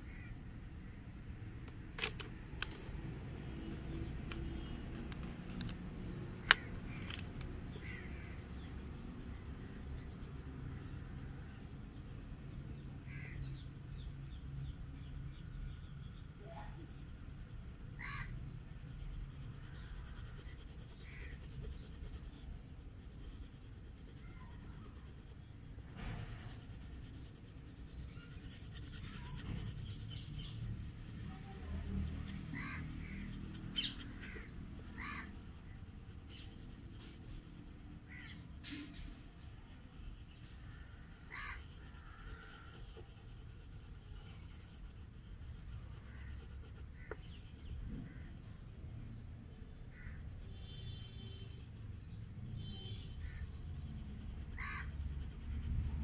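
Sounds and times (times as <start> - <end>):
low background rumble: 0.0 - 56.0
oil pastel rubbing on paper: 3.6 - 48.4, 49.8 - 56.0.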